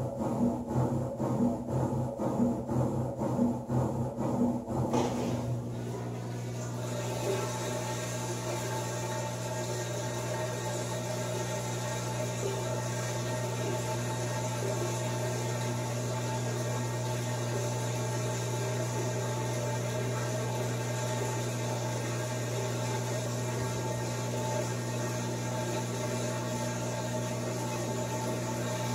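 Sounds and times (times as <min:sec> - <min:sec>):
washing machine humming and whirring: 0:00.0 - 0:28.9.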